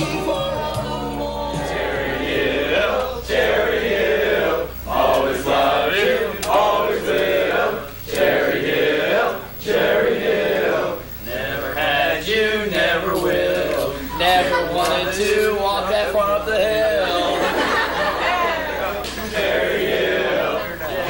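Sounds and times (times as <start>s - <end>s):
boys singing in unison: 0.0s - 21.0s.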